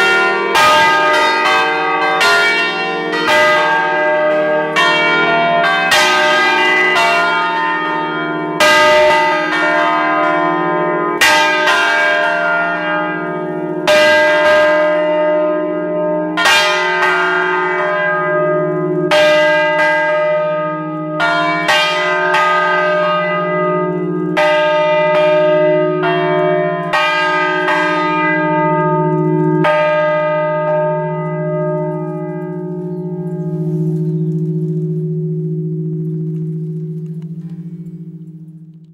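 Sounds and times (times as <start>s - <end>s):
church bells pealing: 0.0s - 38.9s
low hum of bells: 0.0s - 38.9s.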